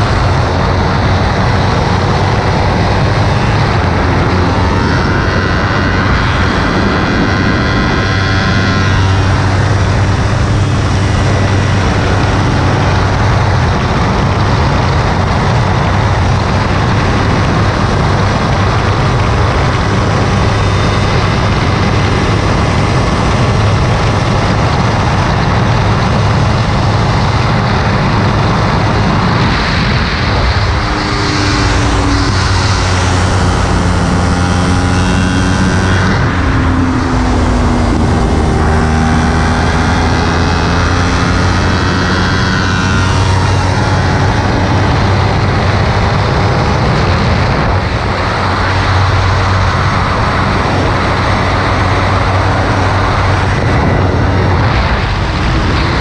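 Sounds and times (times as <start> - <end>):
motorcycle engine running hard: 0.0 - 56.0
wind rush: 0.0 - 56.0.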